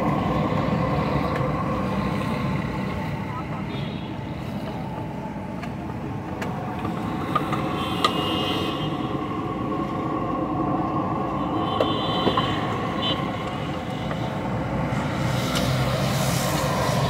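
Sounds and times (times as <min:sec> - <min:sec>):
street stall ambience roar: 0:00.0 - 0:17.0.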